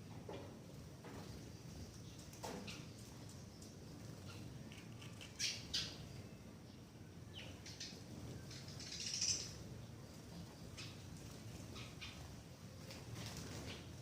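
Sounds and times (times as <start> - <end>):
birds chirping: 1.1 - 14.0.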